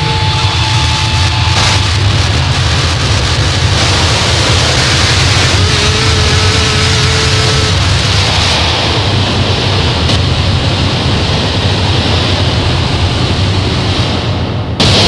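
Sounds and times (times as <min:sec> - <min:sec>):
distorted electronic noise: 0:00.0 - 0:14.0, 0:14.8 - 0:15.0
heavy low rumble: 0:00.0 - 0:15.0.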